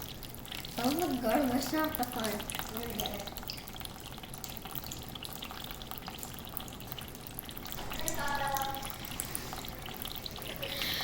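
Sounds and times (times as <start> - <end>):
bird bathing splashes: 0.0 - 11.0
running water: 0.0 - 11.0.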